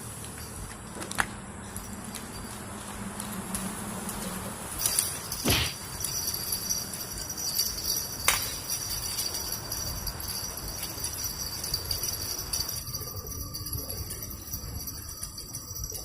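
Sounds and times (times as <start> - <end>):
small bell jingling: 0.0 - 0.8, 1.6 - 16.0.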